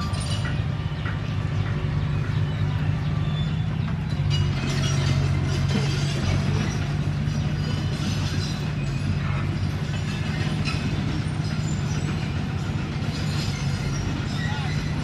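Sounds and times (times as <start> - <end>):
bulldozer diesel engine running: 0.0 - 15.0
steel tracks clanking and squeaking: 0.0 - 15.0.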